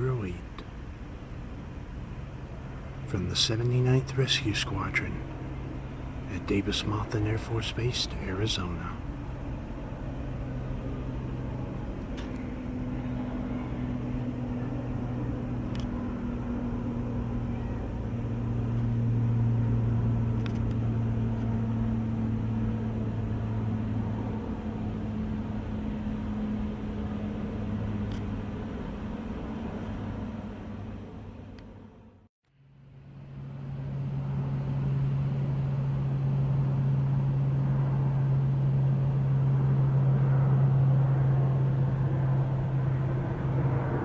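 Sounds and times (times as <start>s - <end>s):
turboprop propellers droning: 0.0s - 44.0s.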